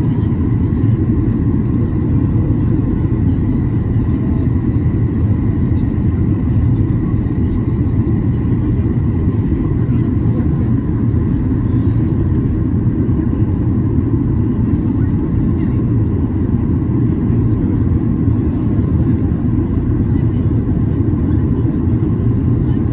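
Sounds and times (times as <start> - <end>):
airplane cabin rumble: 0.0 - 22.9.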